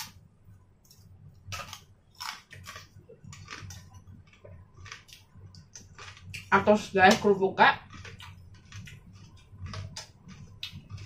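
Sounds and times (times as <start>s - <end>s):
crackers being crunched: 0.9s - 6.5s, 7.1s - 11.0s.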